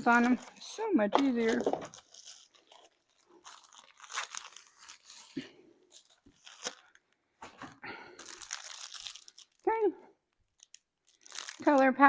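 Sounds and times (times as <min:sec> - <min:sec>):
paper packaging rustling: 0:00.0 - 0:09.8, 0:10.4 - 0:12.0.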